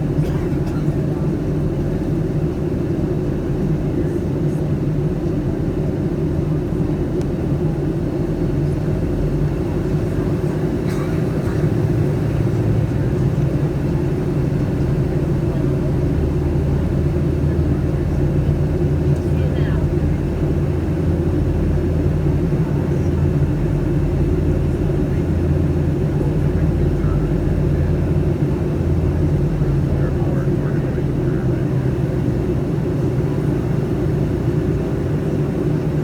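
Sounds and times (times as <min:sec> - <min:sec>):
aircraft cabin drone: 0:00.0 - 0:36.0.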